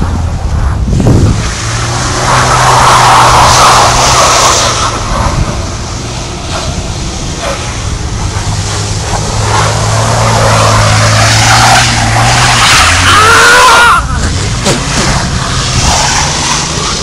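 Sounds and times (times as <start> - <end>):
car engine under throttle: 0.0 - 17.0
wheels spinning through slushy snow: 0.5 - 17.0.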